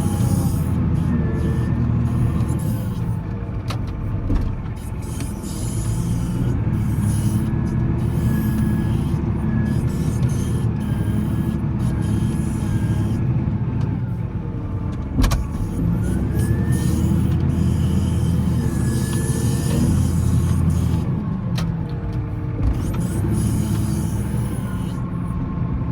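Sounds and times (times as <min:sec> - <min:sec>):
diesel engine running: 0:00.0 - 0:25.9
faint engine whine: 0:00.0 - 0:25.9.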